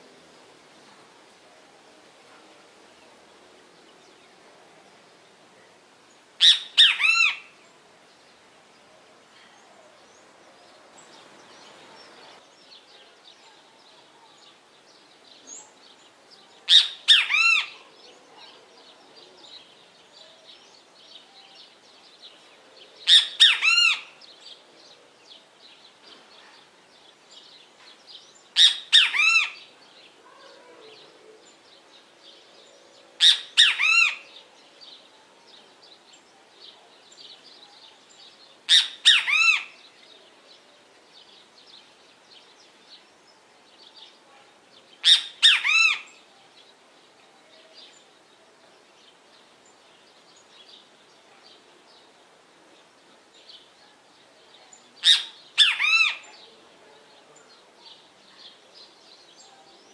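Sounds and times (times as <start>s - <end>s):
great kiskadee calling: 5.5s - 7.8s, 8.7s - 59.9s.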